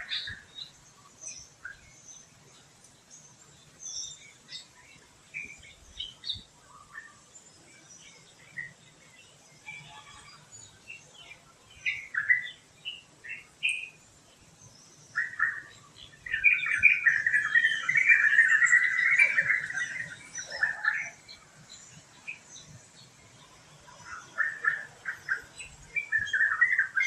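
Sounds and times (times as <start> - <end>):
wild birds chirping and chattering: 0.0 - 27.0.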